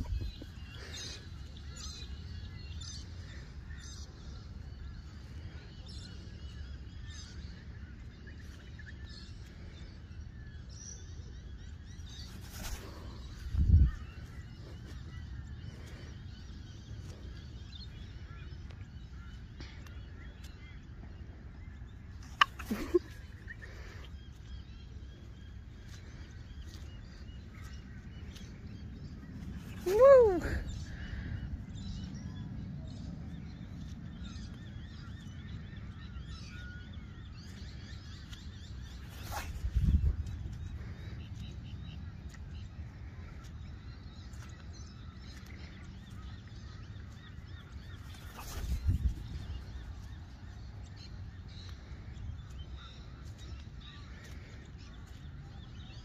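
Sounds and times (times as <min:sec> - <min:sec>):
wind rumbling on microphone: 0:00.0 - 0:07.8, 0:09.1 - 0:19.3, 0:26.0 - 0:56.0
small birds chirping: 0:00.0 - 0:56.0.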